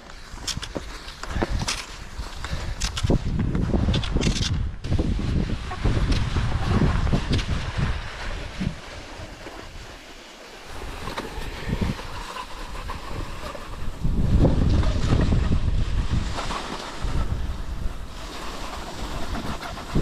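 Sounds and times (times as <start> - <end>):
wind buffeting microphone: 0.0 - 10.0, 10.7 - 20.0
skis sliding on snow: 0.0 - 20.0.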